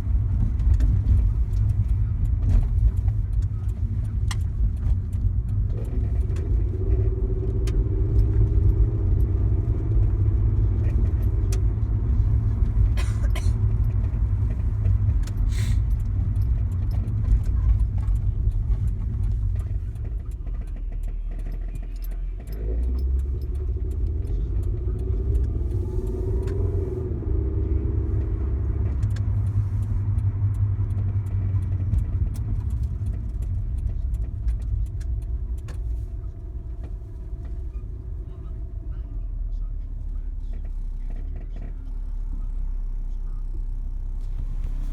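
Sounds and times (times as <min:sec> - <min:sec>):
car engine rumble: 0:00.0 - 0:44.9.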